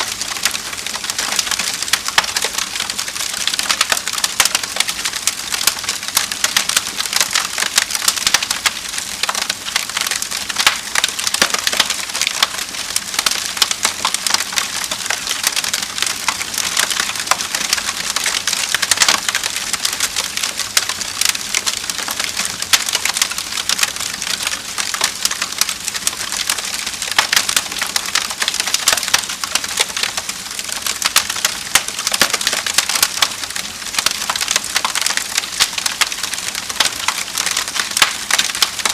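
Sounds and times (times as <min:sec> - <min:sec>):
burning logs popping: 0:00.0 - 0:38.9
wood fire crackling: 0:00.0 - 0:38.9.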